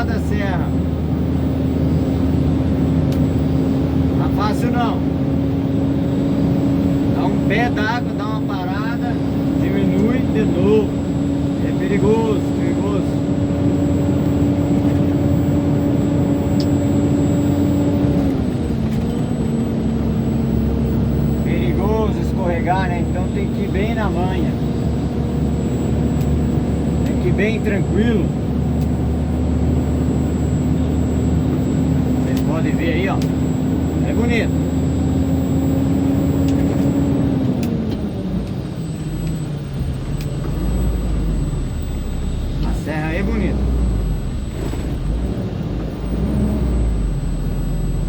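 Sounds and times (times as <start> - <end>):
truck engine climbing: 0.0 - 48.0.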